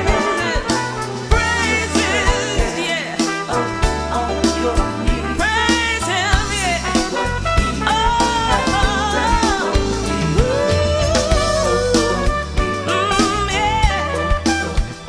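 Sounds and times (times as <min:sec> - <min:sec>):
jazzy song with singing: 0:00.0 - 0:15.0.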